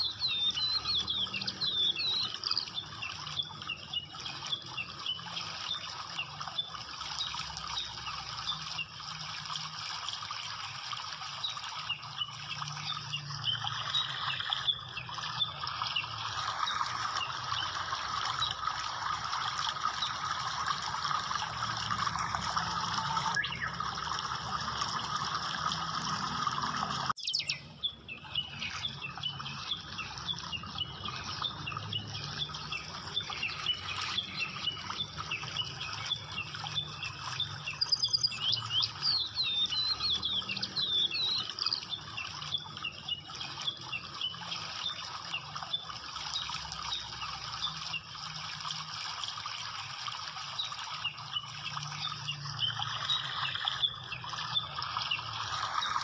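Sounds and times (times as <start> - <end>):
small birds chirping: 0.0 - 9.0, 11.3 - 24.3, 26.8 - 48.1, 50.6 - 56.0
running water rushing: 0.0 - 56.0.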